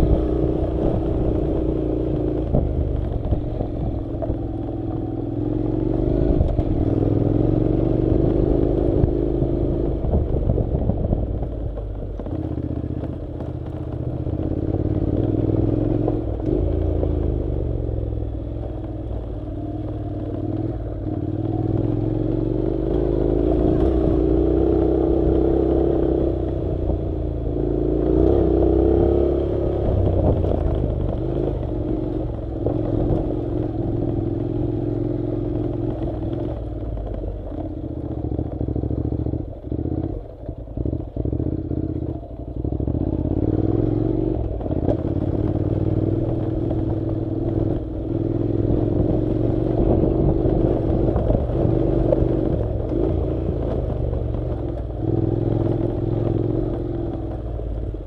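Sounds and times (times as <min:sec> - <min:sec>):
clatter from rough road: 0:00.0 - 0:58.0
motorcycle engine revving: 0:00.0 - 0:58.0.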